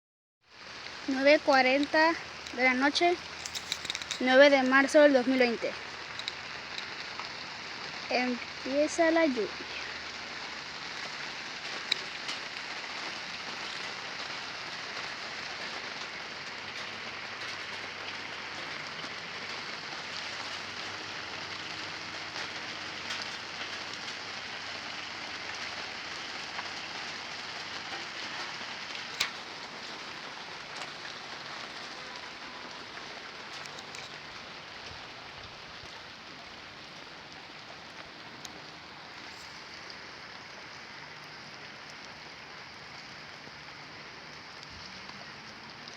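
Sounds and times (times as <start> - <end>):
rain falling steadily: 0.4 - 45.9
sharp raindrop hits: 0.6 - 45.9.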